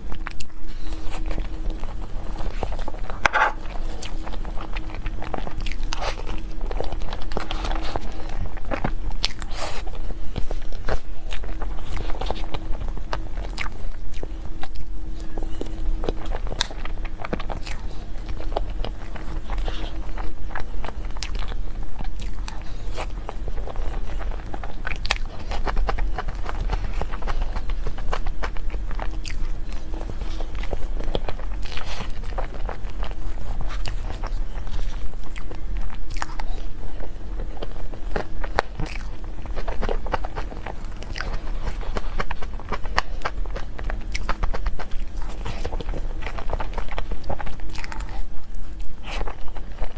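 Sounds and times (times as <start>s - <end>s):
faint low hum: 0.0s - 49.9s
person chewing food: 0.0s - 49.9s.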